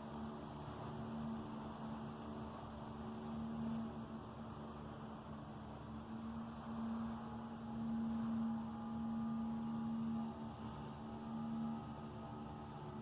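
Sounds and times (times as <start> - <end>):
faint higher tones: 0.0 - 13.0
low droning hum: 0.0 - 13.0.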